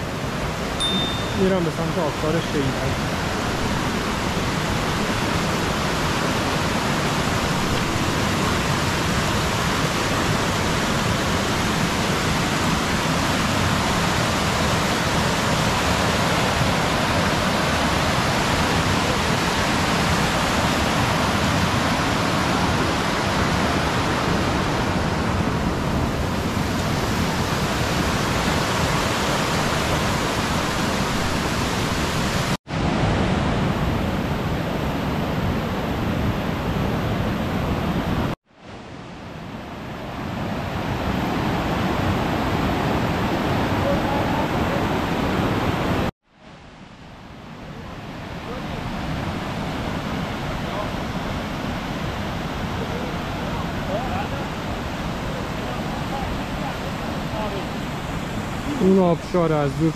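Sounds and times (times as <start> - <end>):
mountain stream over rocks: 0.0 - 59.9.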